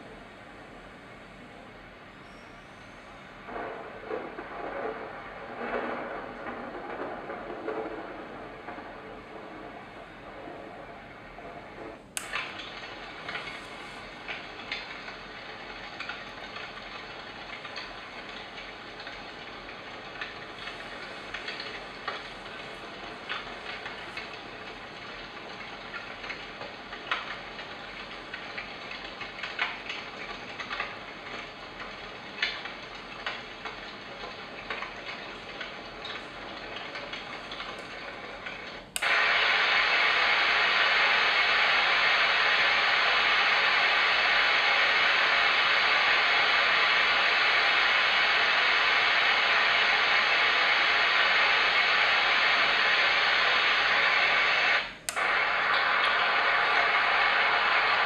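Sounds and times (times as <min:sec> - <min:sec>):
steady hiss with sharp clicks: 0:00.0 - 0:58.0.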